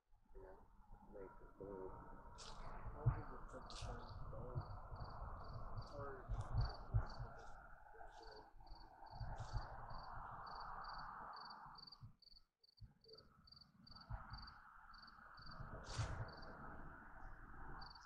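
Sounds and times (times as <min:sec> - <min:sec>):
cricket chirping: 0:03.3 - 0:18.0.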